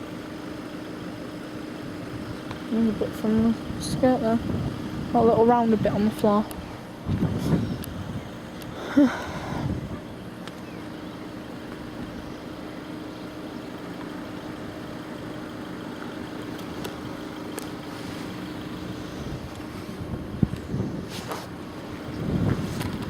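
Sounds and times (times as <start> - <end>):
engines idling: 0.0 - 23.0
traffic noise: 0.0 - 23.0.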